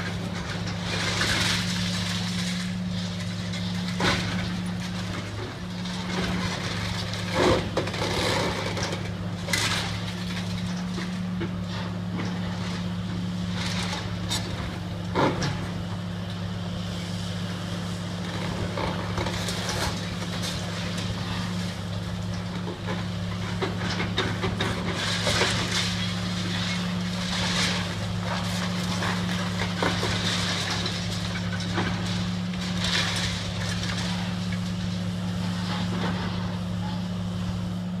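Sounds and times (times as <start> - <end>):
masonry crunching and debris falling: 0.0 - 16.1, 18.1 - 37.0
diesel engine humming: 0.0 - 38.0.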